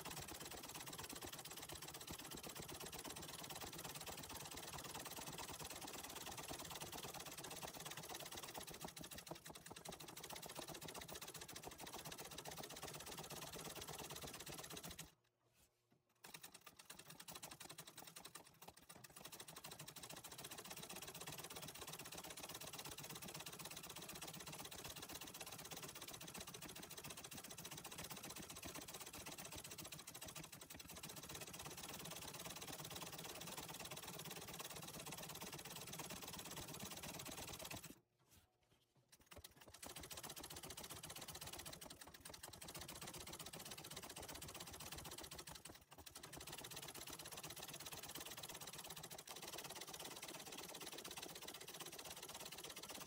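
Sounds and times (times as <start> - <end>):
sewing machine clatter: 0.0 - 15.2, 16.0 - 38.0, 38.9 - 53.0.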